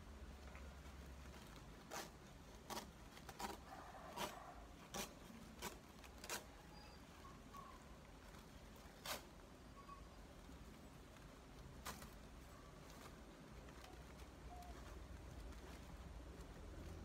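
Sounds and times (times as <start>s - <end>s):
plastic sack crackling: 0.0s - 17.0s
soft rustle: 0.0s - 17.0s.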